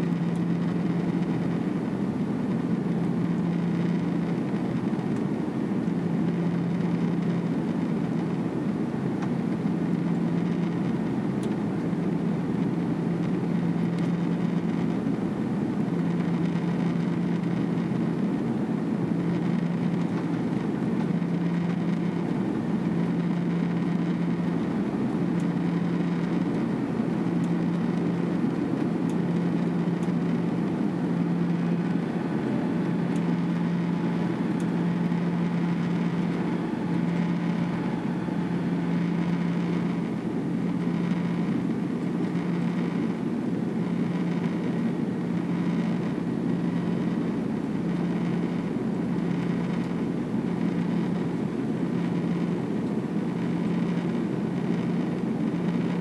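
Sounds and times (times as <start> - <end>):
jet engine cabin drone: 0.0 - 56.0
low hum: 0.0 - 56.0.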